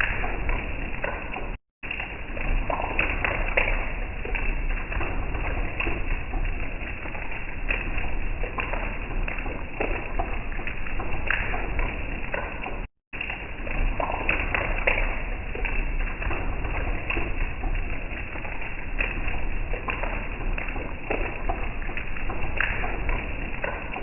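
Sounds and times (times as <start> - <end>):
crackles and clicks: 0.0 - 24.0.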